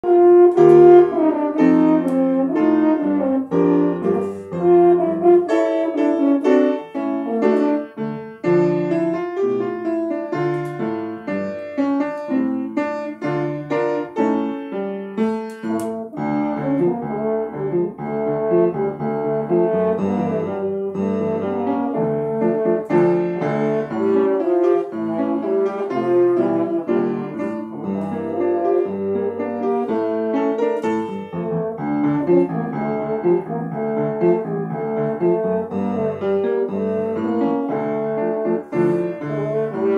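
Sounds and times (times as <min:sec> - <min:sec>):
french horn melody: 0:00.0 - 0:39.9
piano accompaniment: 0:00.0 - 0:39.9.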